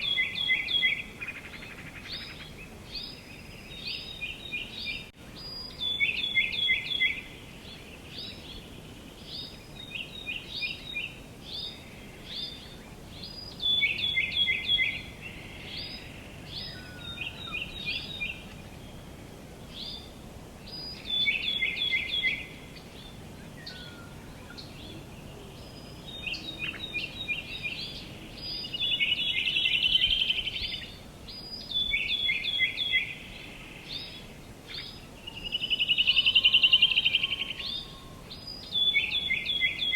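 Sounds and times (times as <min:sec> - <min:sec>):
outdoor background hiss: 0:00.0 - 0:39.9
songbirds singing: 0:00.0 - 0:39.9.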